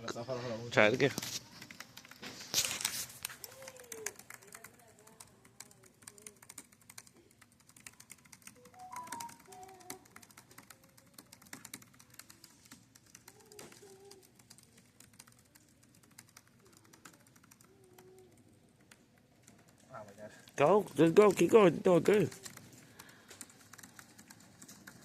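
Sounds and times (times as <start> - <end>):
fast typing on a keyboard: 0.8 - 25.0.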